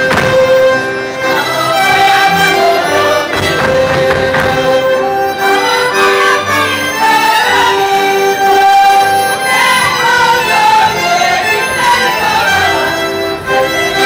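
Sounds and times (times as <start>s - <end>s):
folk band with fiddles playing: 0.0s - 14.0s.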